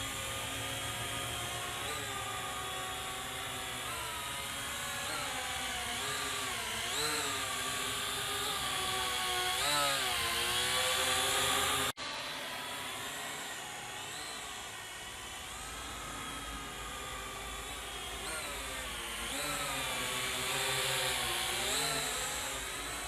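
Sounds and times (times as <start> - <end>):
drone propellers whining: 0.0 - 23.0.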